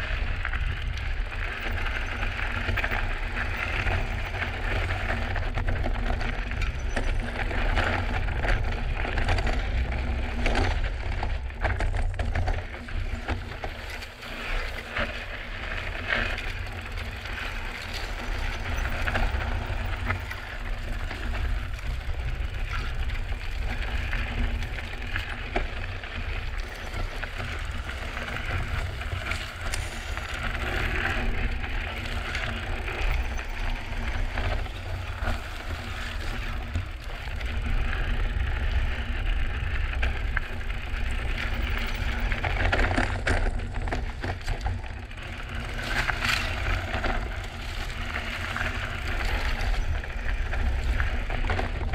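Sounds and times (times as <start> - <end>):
bike rattling: 0.0 - 51.9.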